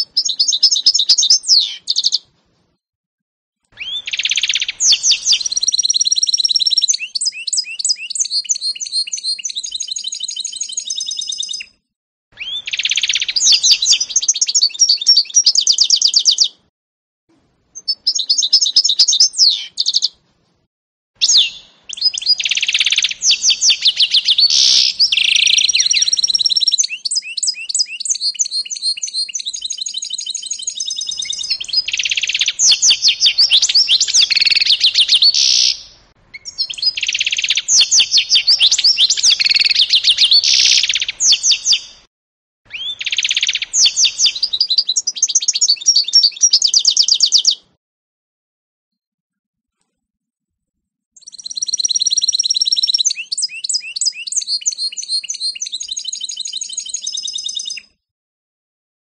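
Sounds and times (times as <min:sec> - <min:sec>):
finch singing trills and chirps: 0:00.0 - 0:02.2, 0:03.8 - 0:11.8, 0:12.4 - 0:16.6, 0:17.8 - 0:20.2, 0:21.2 - 0:42.0, 0:42.7 - 0:47.6, 0:51.2 - 0:58.0.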